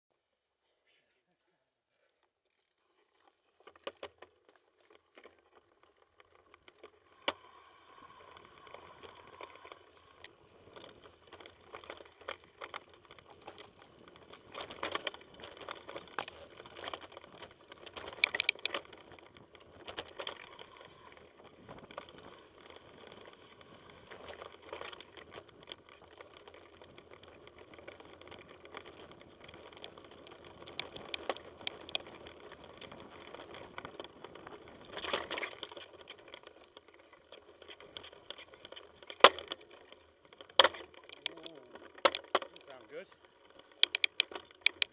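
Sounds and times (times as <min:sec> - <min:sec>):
mountain bike rattling: 0:02.4 - 0:44.9.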